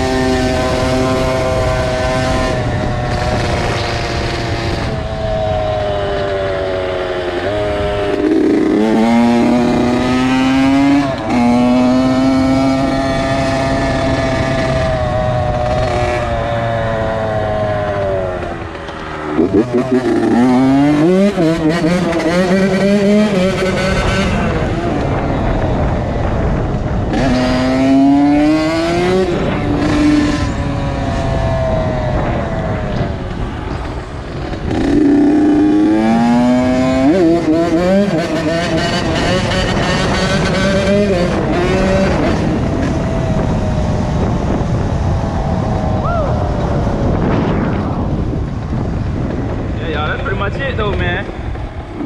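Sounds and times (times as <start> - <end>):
two-stroke engine revving: 0.0 - 25.9, 26.6 - 33.0, 34.4 - 45.5
wind on microphone: 0.0 - 52.0.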